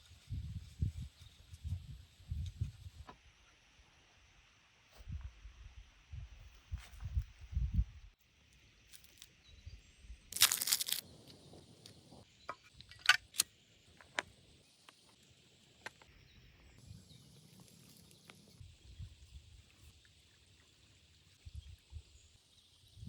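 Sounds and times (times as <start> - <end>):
faint high outdoor hiss: 0.0 - 23.0.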